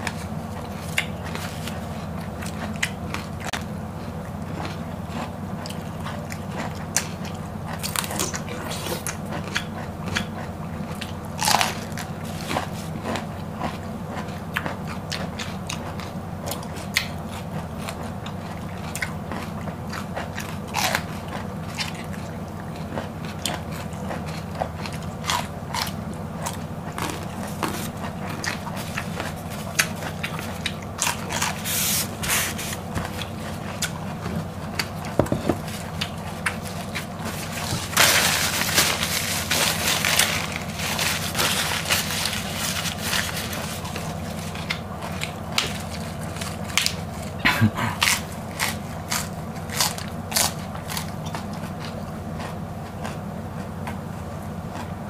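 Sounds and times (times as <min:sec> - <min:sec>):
chewing raw vegetables: 0:00.0 - 0:55.0
steady low hum: 0:00.0 - 0:55.0.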